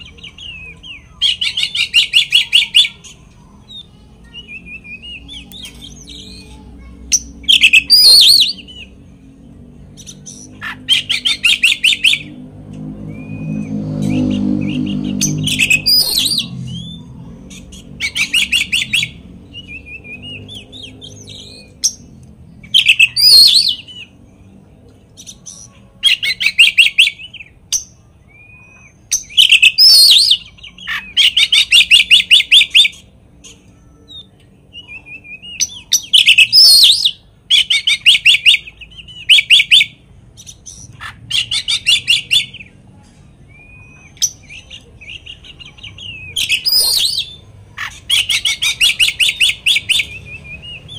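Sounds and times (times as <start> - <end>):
songbird singing trills and whistles: 0.0 - 9.1, 9.9 - 42.8, 43.4 - 50.9
soft bird calls: 0.0 - 50.9.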